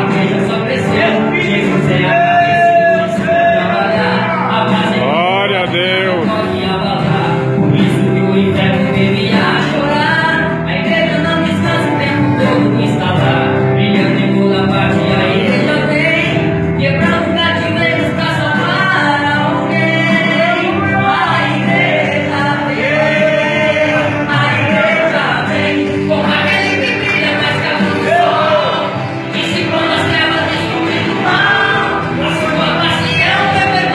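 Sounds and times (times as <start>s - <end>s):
gospel choir singing: 0.0s - 33.9s
instrumental accompaniment: 0.0s - 33.9s.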